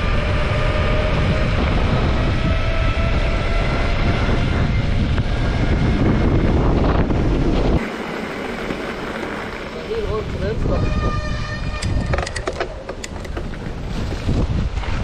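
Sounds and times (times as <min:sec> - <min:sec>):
wind on microphone: 0:00.0 - 0:07.9, 0:09.7 - 0:15.0
bike tyres rolling on asphalt: 0:00.0 - 0:15.0.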